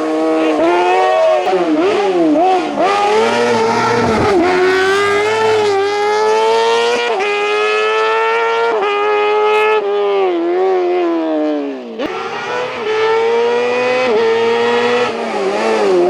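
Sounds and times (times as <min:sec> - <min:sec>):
racing car engine at full throttle: 0:00.0 - 0:16.0.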